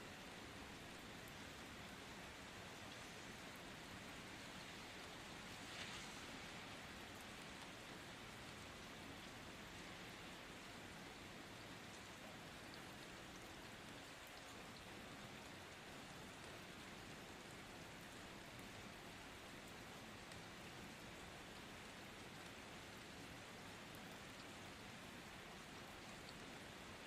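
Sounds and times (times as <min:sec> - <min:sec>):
faint rain falling: 0:00.0 - 0:27.0
light raindrop ticks: 0:00.1 - 0:27.0.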